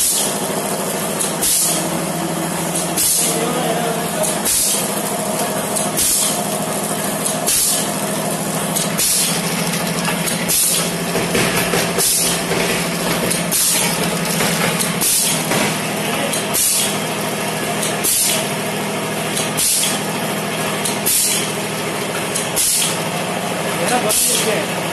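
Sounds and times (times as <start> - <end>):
packing machine motor hum: 0.0 - 24.9.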